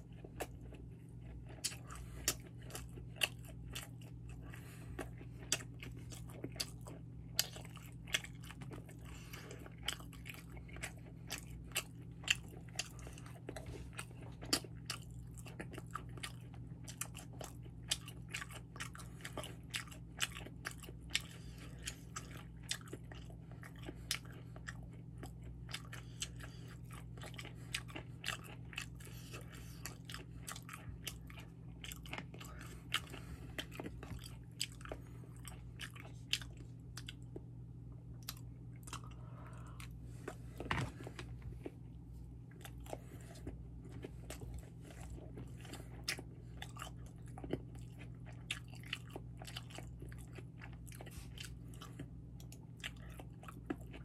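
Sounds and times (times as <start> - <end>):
chewing and biting food: 0.0 - 54.0
low steady hum: 0.0 - 54.0.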